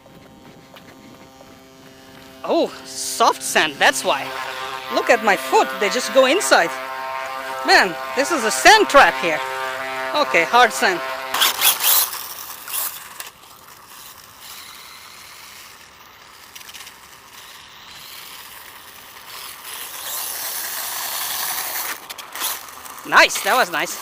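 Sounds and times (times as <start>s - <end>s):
electric motor whirring: 0.0s - 24.0s.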